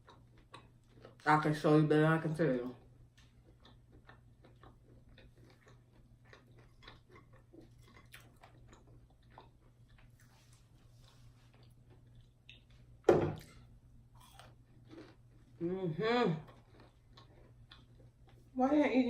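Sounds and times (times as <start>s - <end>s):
chewing and crunching fried food: 0.0s - 18.6s
low steady hum: 0.0s - 19.0s.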